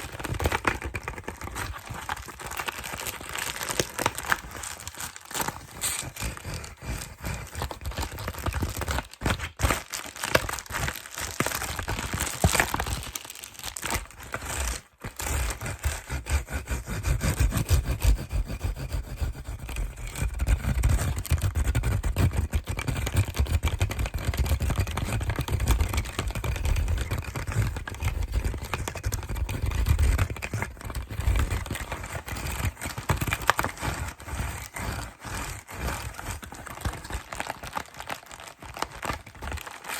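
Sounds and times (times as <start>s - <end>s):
packaging crinkling and scratching: 0.0s - 39.9s.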